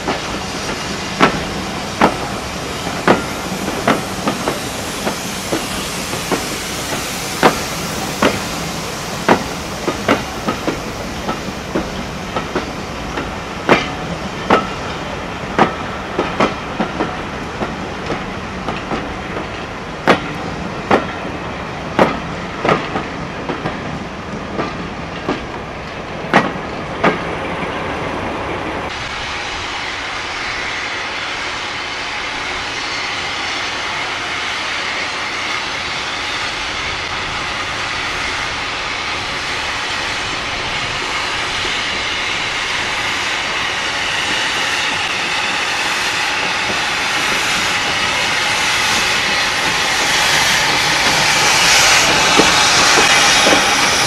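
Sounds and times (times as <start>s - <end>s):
steam hissing from locomotive: 0.0s - 23.1s, 28.9s - 54.0s.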